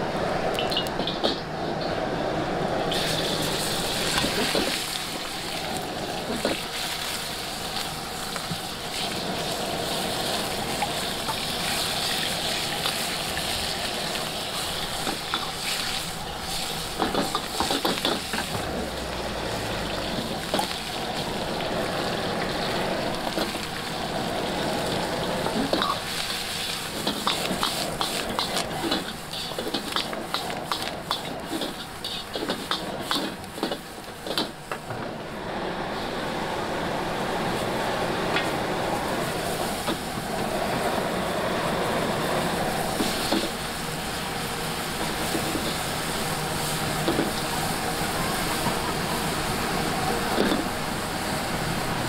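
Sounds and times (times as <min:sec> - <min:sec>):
noodles sizzling in a wok: 0:02.8 - 0:34.7, 0:35.3 - 0:52.0.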